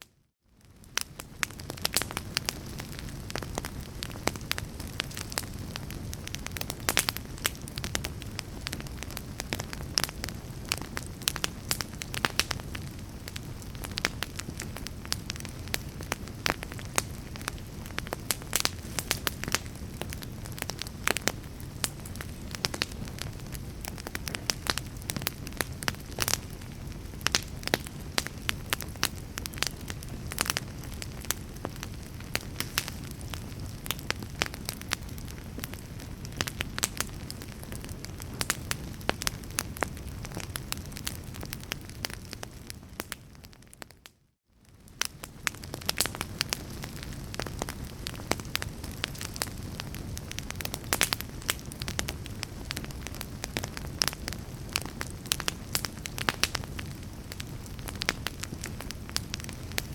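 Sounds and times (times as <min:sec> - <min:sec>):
fire crackling: 0:00.4 - 0:59.9.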